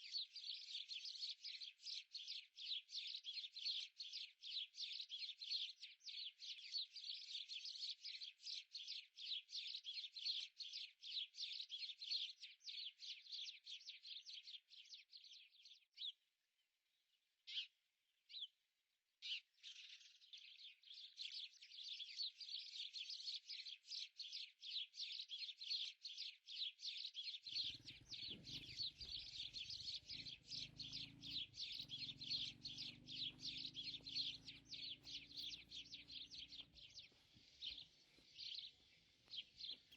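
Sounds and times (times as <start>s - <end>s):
birds chirping rapidly: 0.0s - 16.1s, 19.2s - 39.9s.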